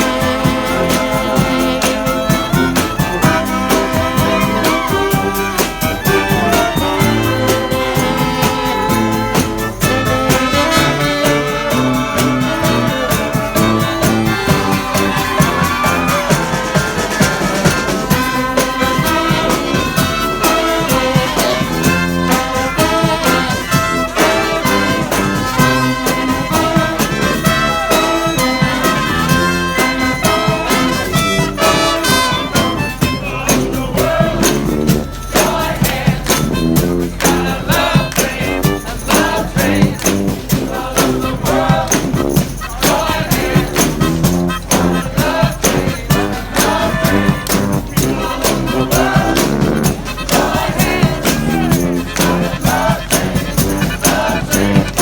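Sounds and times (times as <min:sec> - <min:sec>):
brass band playing: 0:00.0 - 0:55.0
steady drum beat: 0:00.0 - 0:55.0.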